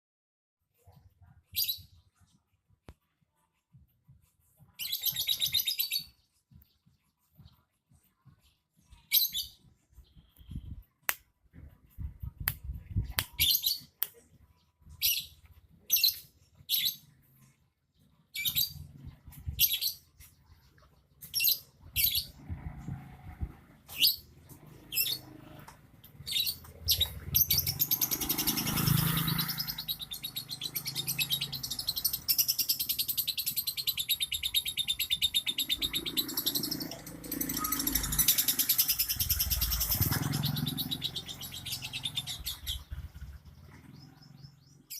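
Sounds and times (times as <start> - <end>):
songbird chirping and twittering: 0.7 - 44.9.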